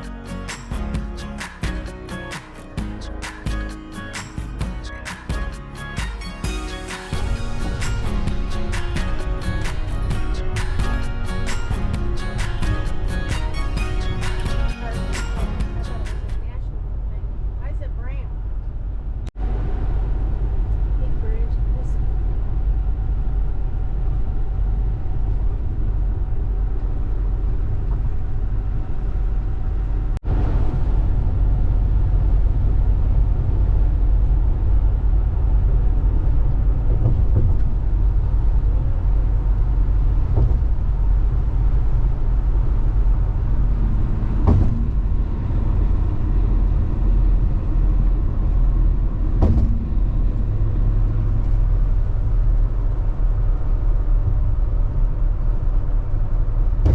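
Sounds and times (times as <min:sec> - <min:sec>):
vehicle road noise rumble: 0:00.0 - 0:56.9.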